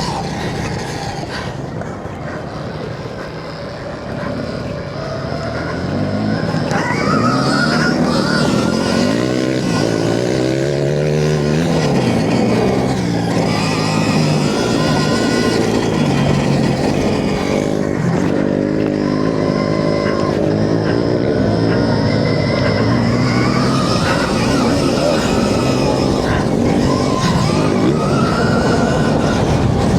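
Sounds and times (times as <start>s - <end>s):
electric motorbike motor whining: 0.0s - 29.9s.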